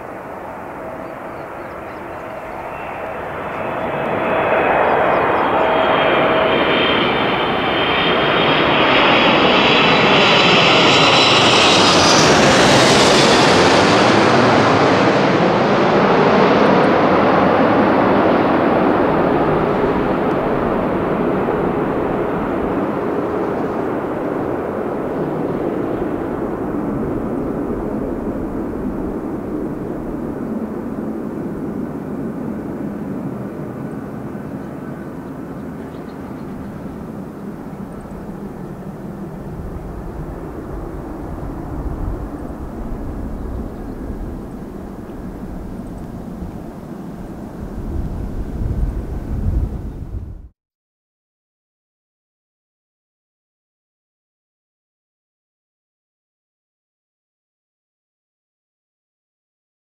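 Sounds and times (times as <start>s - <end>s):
jet plane passing overhead: 0.0s - 50.5s.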